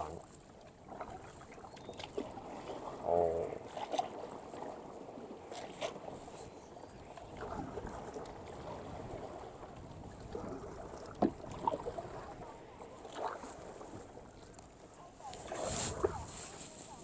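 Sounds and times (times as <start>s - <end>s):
paddle splashing in water: 0.0s - 17.0s.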